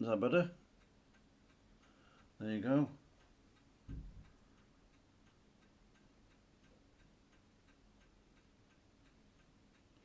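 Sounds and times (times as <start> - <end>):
clock ticking: 0.0 - 10.0.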